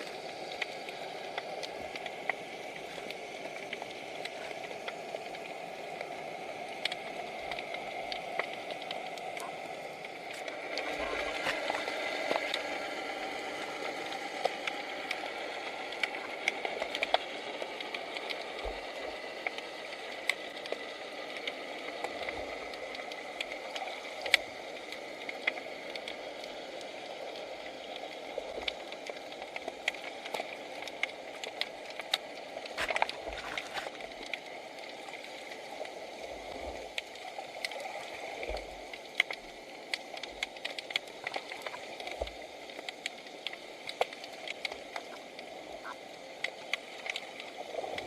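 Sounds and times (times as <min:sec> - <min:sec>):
sharp clicks and crackles: 0:00.0 - 0:48.0.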